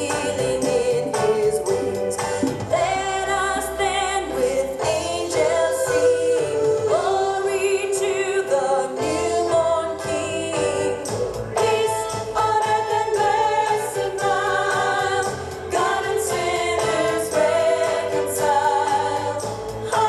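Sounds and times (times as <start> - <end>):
choir singing long notes: 0.0 - 20.0
instrumental backing: 0.0 - 20.0.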